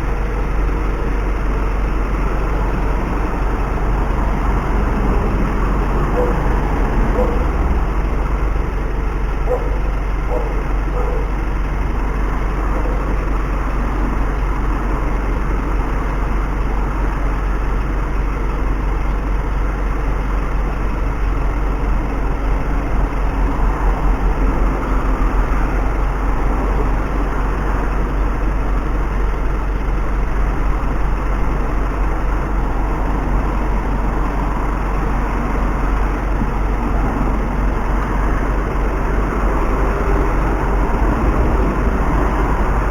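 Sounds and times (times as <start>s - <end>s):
car engine and road rumble: 0.0s - 42.9s.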